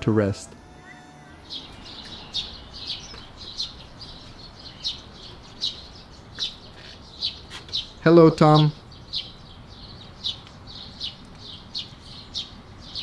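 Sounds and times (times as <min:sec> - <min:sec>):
budgerigars chirping: 0:01.4 - 0:13.0.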